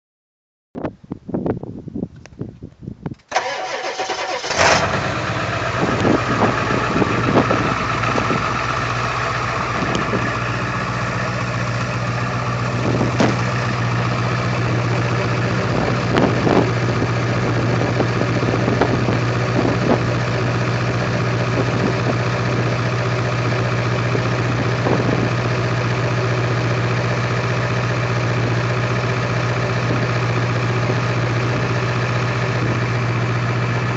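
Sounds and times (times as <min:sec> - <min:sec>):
engine starting and idling: 0:03.2 - 0:33.9.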